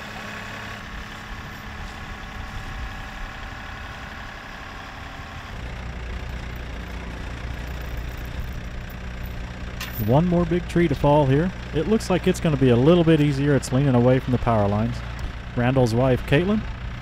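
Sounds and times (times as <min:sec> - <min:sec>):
backhoe diesel engine idling: 0:00.0 - 0:17.0
tractor diesel engine running: 0:00.0 - 0:17.0.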